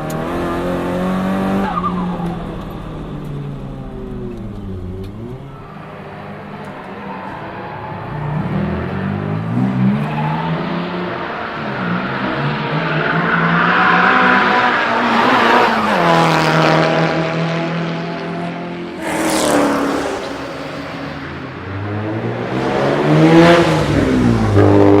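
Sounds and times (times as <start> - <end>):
turbocharged car engine revving: 0.0 - 25.0.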